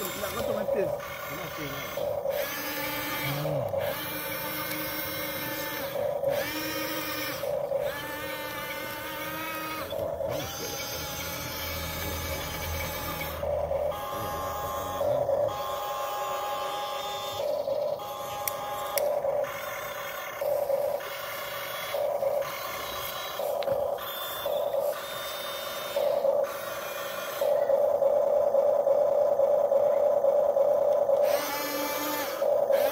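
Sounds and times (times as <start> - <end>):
small electric motors whining: 0.0 - 32.9.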